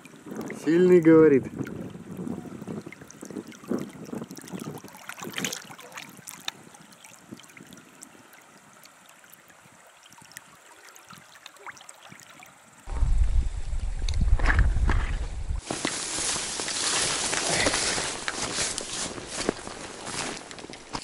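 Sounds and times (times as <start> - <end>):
river water flowing faintly: 0.0 - 21.0.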